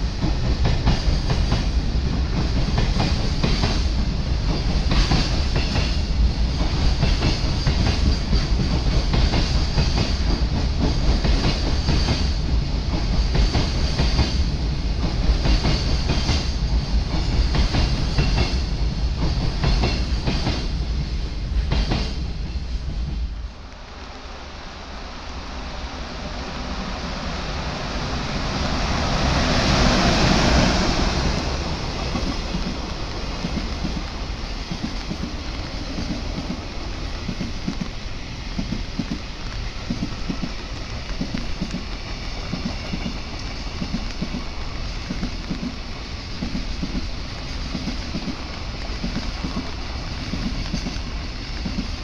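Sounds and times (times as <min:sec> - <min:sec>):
freight train wheels rumbling: 0:00.0 - 0:52.0
rain hissing: 0:00.0 - 0:52.0.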